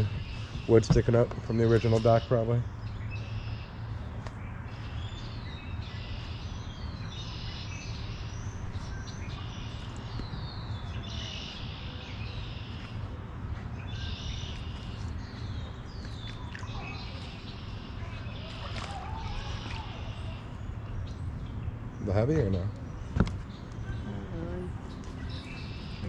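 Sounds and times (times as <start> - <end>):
low steady rumble: 0.0 - 26.0
songbirds singing: 0.0 - 26.0.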